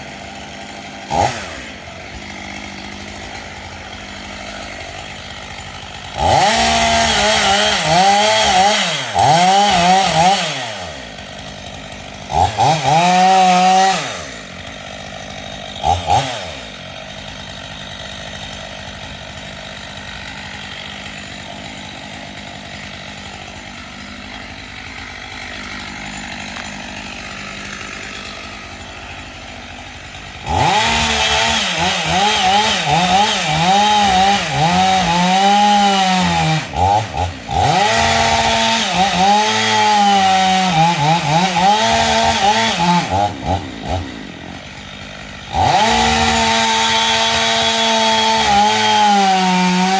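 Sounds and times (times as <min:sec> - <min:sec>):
chainsaw revving while cutting: 0:00.0 - 0:49.9.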